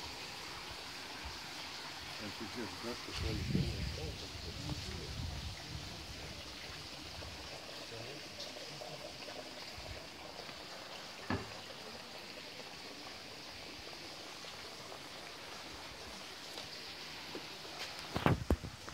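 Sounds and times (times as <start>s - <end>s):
high outdoor hiss: 0.0s - 18.9s.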